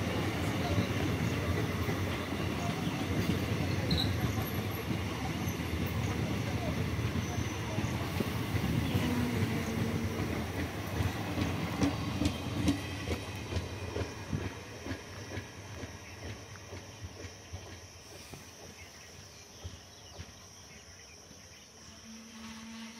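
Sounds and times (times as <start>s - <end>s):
train coaches clattering on rails: 0.0s - 21.0s.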